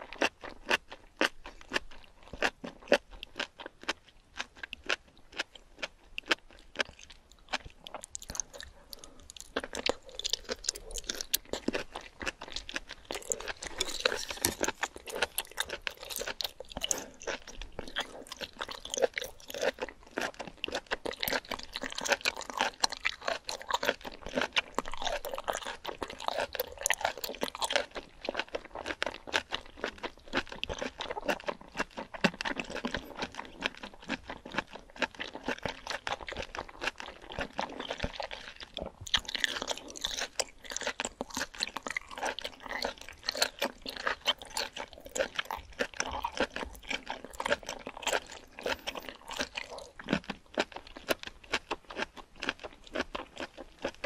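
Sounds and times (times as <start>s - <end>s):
wet sticky chewing: 0.0s - 54.0s.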